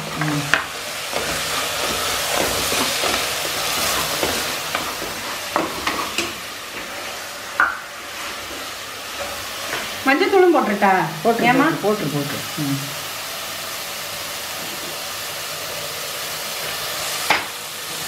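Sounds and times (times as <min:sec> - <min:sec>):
masala sizzling: 0:00.0 - 0:18.0.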